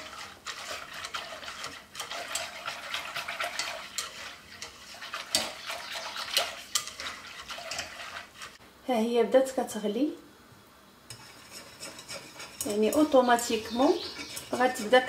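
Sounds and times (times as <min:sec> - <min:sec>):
whisk clicking against pan: 0:00.0 - 0:08.6, 0:11.1 - 0:15.0.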